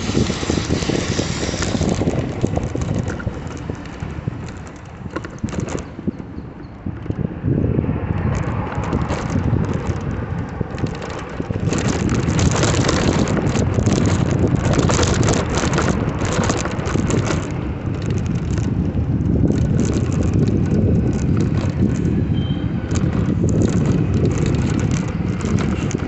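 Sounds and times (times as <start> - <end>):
bicycle tyre rumble: 0.0 - 26.0
crackle and rattle over rough surface: 0.0 - 26.0
wind buffeting microphone: 0.0 - 26.0.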